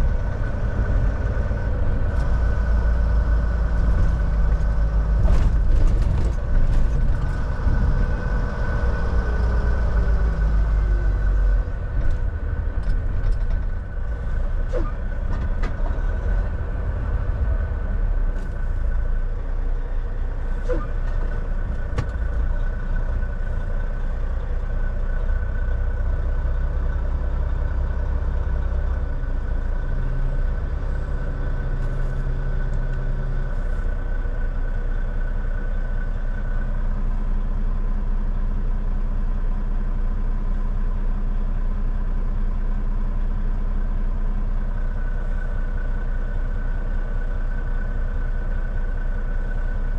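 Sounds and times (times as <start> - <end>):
diesel truck engine droning: 0.0 - 49.9.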